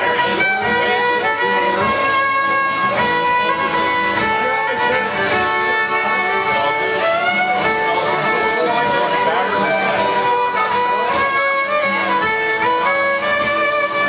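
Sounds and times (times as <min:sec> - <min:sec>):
acoustic guitar: 0:00.0 - 0:14.0
fiddle playing a tune: 0:00.0 - 0:14.0.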